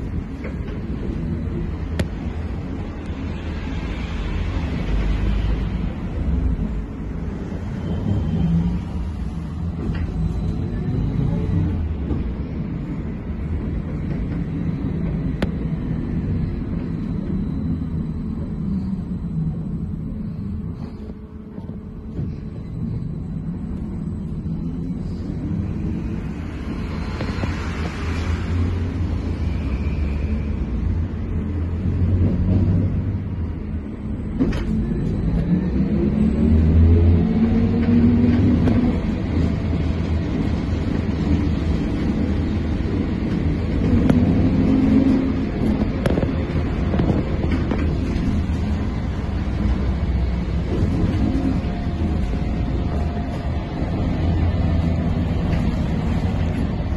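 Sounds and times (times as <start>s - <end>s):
trolleybus cabin rumble: 0.0s - 56.9s.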